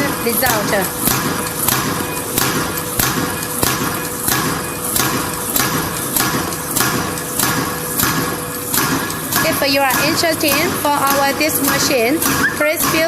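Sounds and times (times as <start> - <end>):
cutter striking rhythmically: 0.0 - 13.0
steady machine hum: 0.0 - 13.0.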